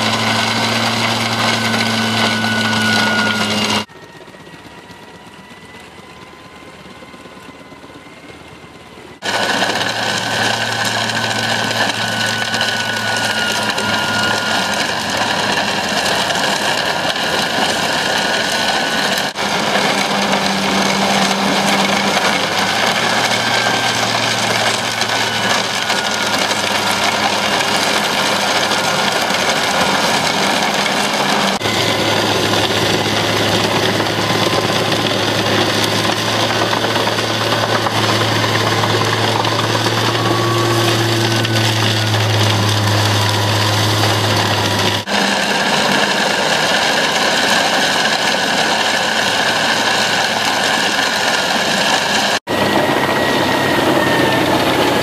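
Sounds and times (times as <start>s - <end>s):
wood chipper grinding wood: 0.0s - 3.9s, 9.2s - 55.0s
engine hum with whine: 0.0s - 55.0s.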